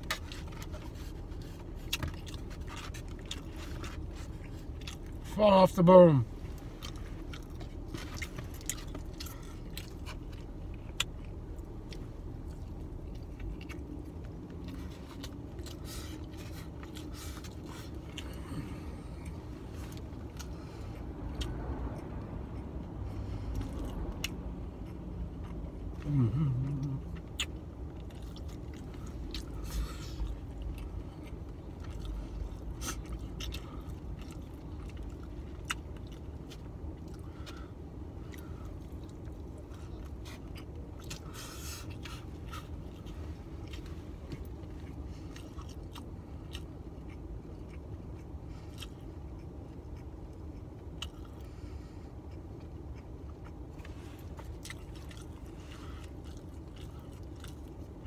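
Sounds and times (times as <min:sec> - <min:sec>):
close chewing: 0:00.0 - 0:05.4, 0:06.4 - 0:58.0
steady low hum: 0:00.0 - 0:58.0.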